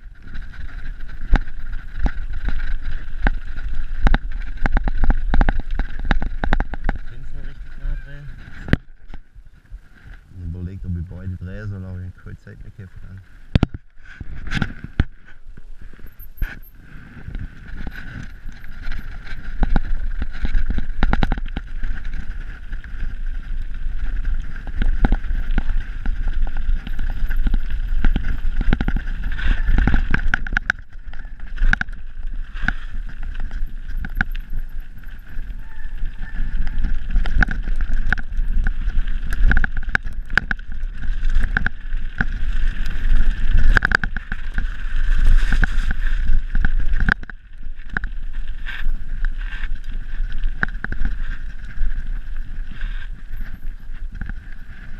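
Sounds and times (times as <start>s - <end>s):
bike knocks and rattles: 0.0s - 9.4s, 13.5s - 52.6s.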